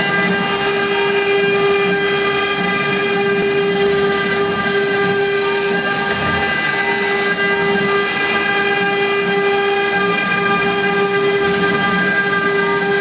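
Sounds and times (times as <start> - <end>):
bit cutting wood: 0.0 - 13.0
router spindle whining: 0.0 - 13.0.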